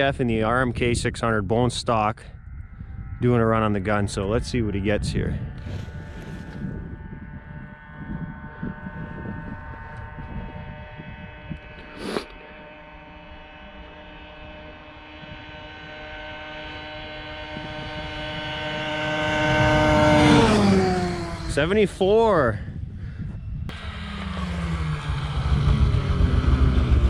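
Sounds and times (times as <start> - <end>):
snowmobile engine at full speed: 0.0 - 27.0.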